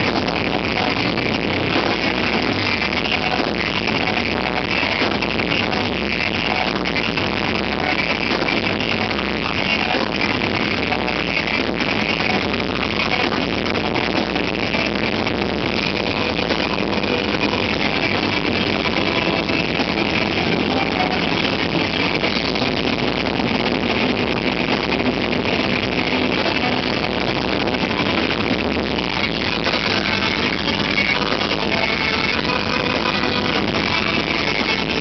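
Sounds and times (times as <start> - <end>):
distorted electric guitar: 0.0 - 35.0
drum kit: 0.0 - 35.0.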